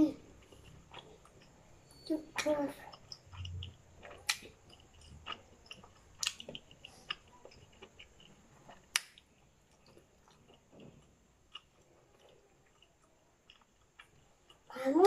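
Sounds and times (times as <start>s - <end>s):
wet chewing: 0.2s - 14.7s
lip smacks: 2.3s - 14.6s.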